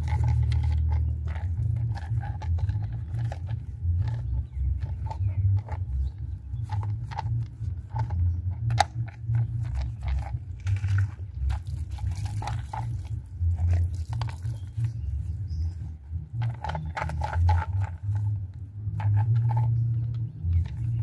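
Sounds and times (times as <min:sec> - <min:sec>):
steady low rumble: 0:00.0 - 0:21.0
wet rag scrubbing plastic: 0:00.0 - 0:21.0.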